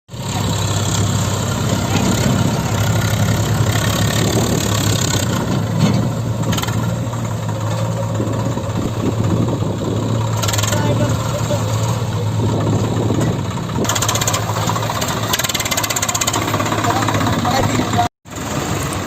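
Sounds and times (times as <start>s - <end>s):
diesel engine running at low revs: 0.1s - 19.0s.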